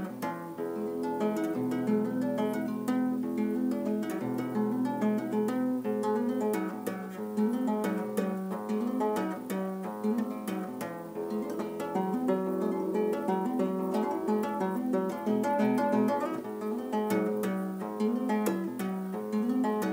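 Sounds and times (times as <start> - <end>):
fingerstyle acoustic guitar: 0.0 - 19.9.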